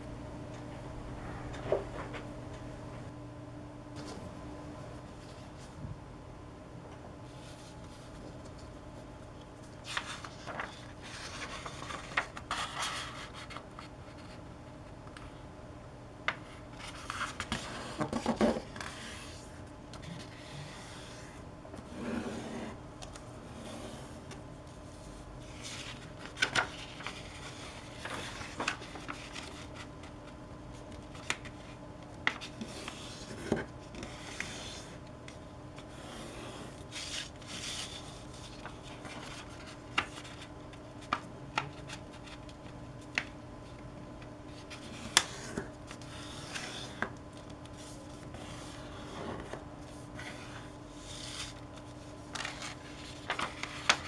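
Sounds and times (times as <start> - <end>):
paper rustling and creasing: 7.3 - 14.4, 16.3 - 43.8, 44.5 - 54.0.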